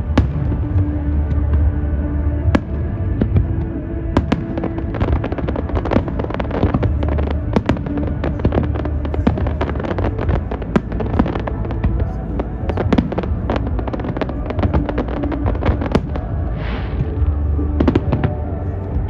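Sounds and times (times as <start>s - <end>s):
steady low tones: 0.0s - 19.0s
fireworks bangs and crackles: 2.4s - 19.0s.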